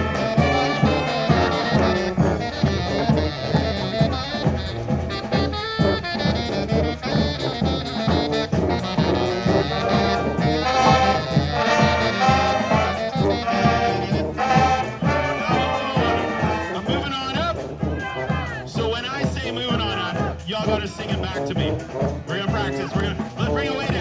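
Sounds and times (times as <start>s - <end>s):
brass band playing: 0.0s - 24.0s
horns playing melody: 0.0s - 24.0s
steady drum beat: 0.0s - 24.0s.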